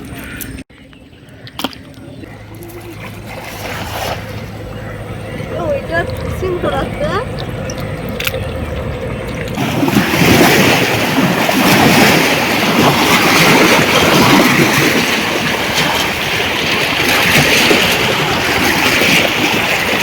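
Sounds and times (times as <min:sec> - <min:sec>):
river water rushing and splashing: 0:02.6 - 0:20.0.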